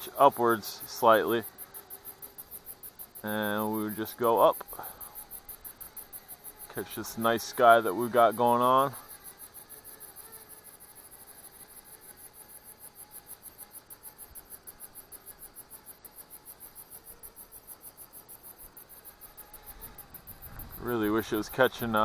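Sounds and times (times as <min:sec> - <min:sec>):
faint hiss: 0:00.0 - 0:22.0
insects chirping: 0:00.0 - 0:22.0.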